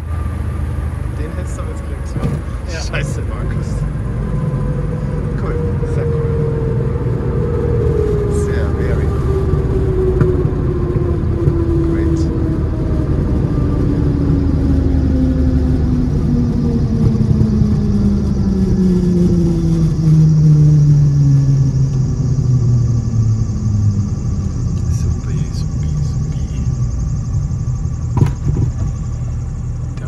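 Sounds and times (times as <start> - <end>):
aircraft engines and propellers droning: 0.0 - 30.0.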